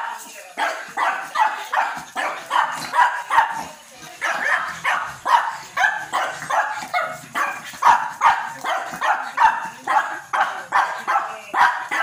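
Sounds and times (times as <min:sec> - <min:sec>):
small dog barking rapidly: 0:00.6 - 0:12.0.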